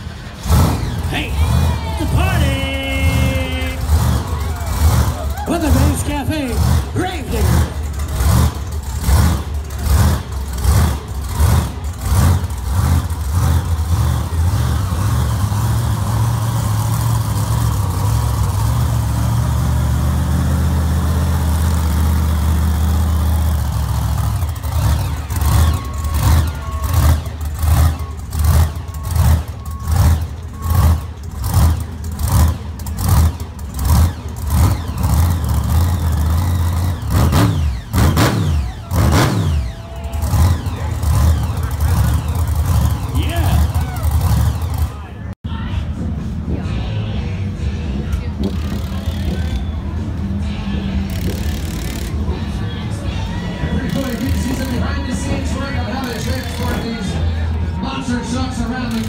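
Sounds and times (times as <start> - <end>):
monster truck engine revving: 0.0 - 45.4, 46.1 - 59.0.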